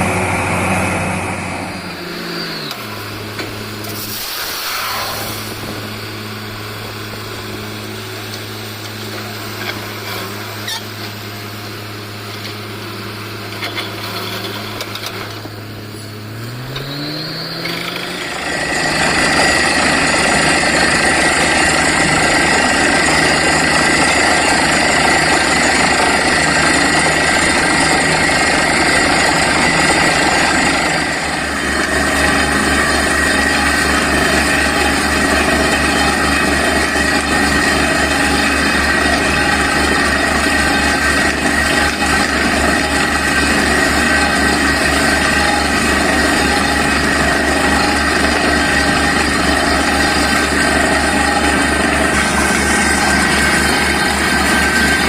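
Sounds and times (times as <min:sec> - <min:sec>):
drilling rig engines pulsing: 0:00.0 - 0:55.0.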